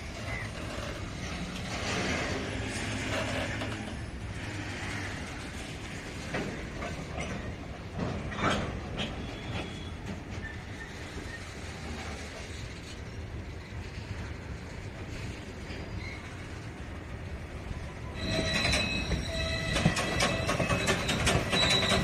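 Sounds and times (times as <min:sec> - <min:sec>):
steel wheels rumbling on rails: 0:00.0 - 0:22.0.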